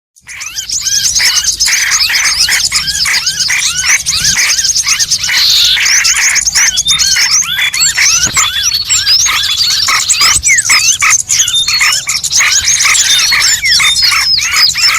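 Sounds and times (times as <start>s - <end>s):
high bird twittering: 0.2s - 14.9s
rapid arching bird chirps: 0.2s - 14.9s.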